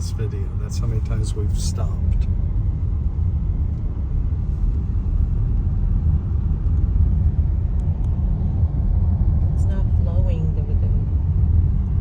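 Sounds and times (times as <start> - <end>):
car engine rumble: 0.0 - 12.0.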